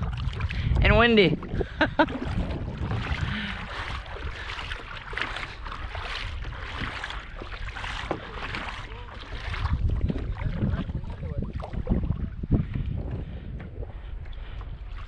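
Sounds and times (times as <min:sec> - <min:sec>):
shallow water sloshing: 0:00.0 - 0:15.0
wind rumbling on microphone: 0:00.0 - 0:15.0.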